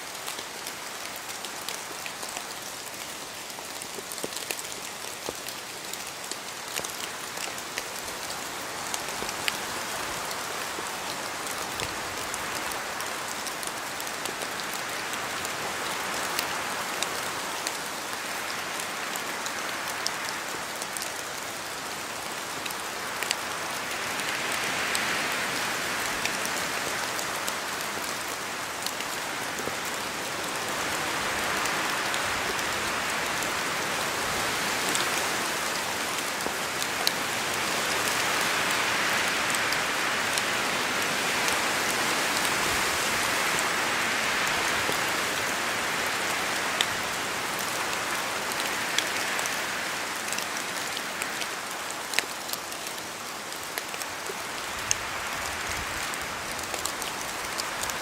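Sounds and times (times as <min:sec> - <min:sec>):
rain falling through trees: 0:00.0 - 0:58.0.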